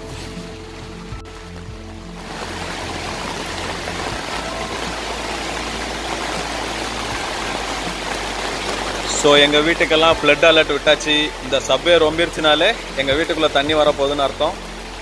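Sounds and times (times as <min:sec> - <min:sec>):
faint background music: 0:00.0 - 0:15.0
floodwater rushing: 0:00.0 - 0:15.0.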